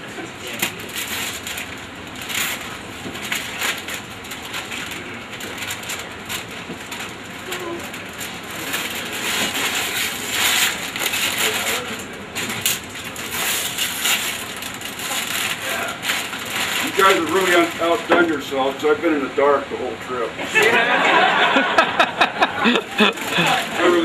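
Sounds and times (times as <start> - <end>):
wrapping paper tearing and crumpling: 0.4 - 18.8, 22.6 - 24.0.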